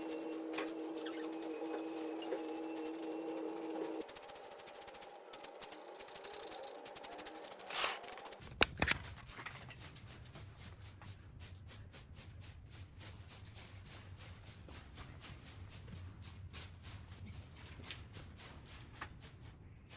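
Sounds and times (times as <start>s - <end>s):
brush dabbing on canvas: 0.0s - 19.9s.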